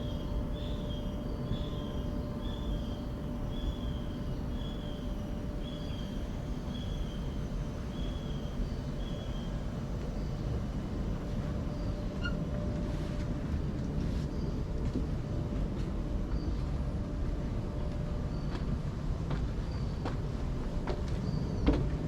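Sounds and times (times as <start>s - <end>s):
steady low rumble: 0.0s - 21.2s.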